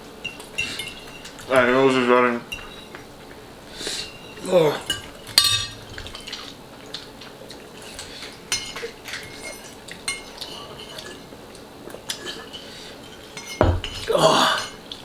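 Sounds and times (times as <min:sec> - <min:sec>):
utensils clinking against bowls: 0:00.2 - 0:03.1, 0:03.9 - 0:06.5, 0:07.8 - 0:15.0.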